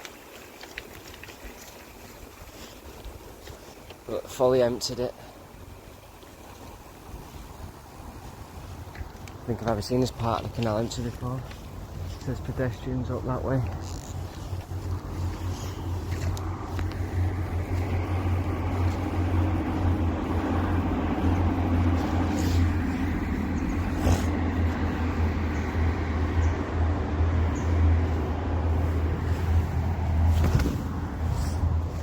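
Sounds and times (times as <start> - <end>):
bike rolling along a path: 0.0 - 32.0.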